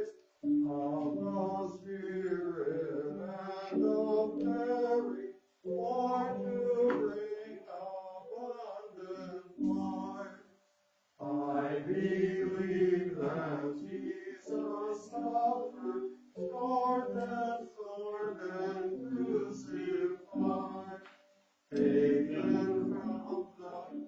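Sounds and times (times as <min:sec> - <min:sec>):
church choir singing a chant: 0:00.0 - 0:10.5, 0:11.2 - 0:24.0.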